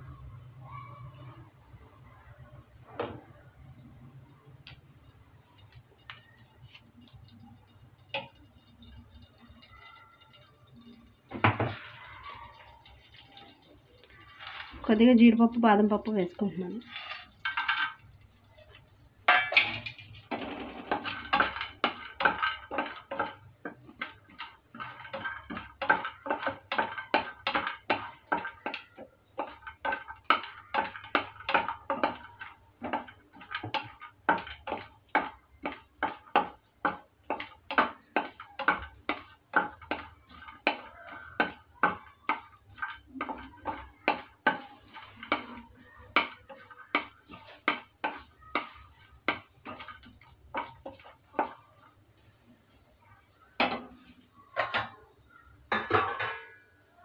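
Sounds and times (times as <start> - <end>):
nuts sizzling in hot ghee: 3.8 - 53.0
wooden spatula scraping a pan: 5.1 - 54.9.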